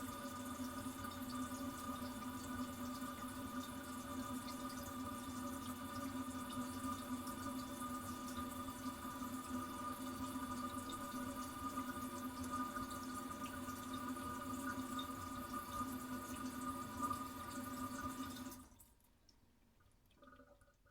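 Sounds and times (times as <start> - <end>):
toilet tank refilling: 0.0 - 18.9, 20.1 - 20.9.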